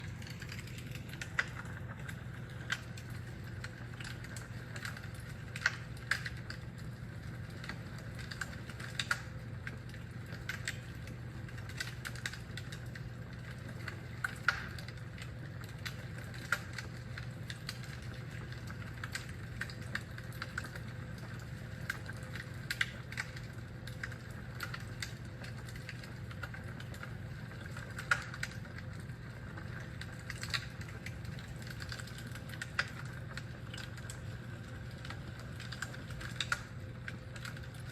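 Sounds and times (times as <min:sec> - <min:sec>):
fire crackling and popping: 0:00.0 - 0:37.9
steady low hum: 0:00.0 - 0:37.9.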